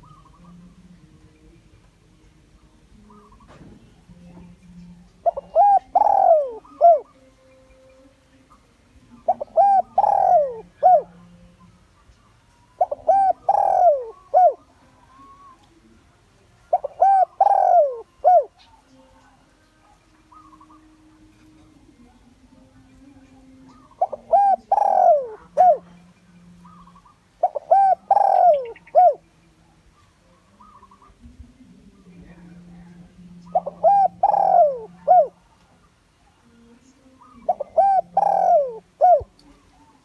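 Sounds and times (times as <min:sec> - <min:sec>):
dove cooing: 0:00.0 - 0:01.0, 0:02.7 - 0:40.0.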